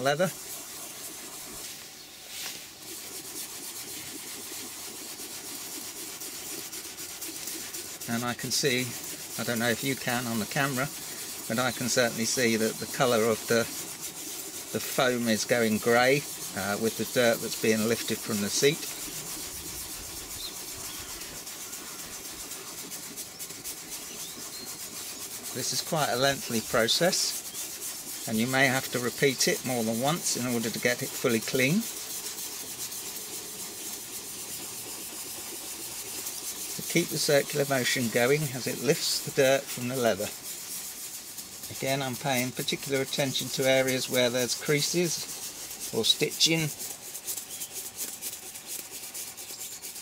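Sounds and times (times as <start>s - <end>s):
brush scrubbing leather: 0.0s - 50.0s.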